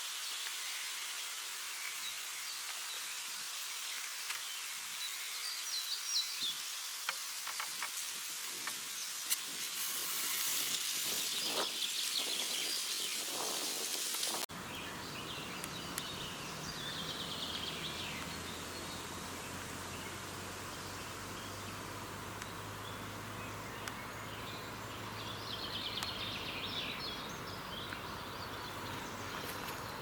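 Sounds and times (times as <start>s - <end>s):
small birds chirping and singing: 0.0s - 7.1s, 8.8s - 30.0s
steady hiss: 0.0s - 30.0s.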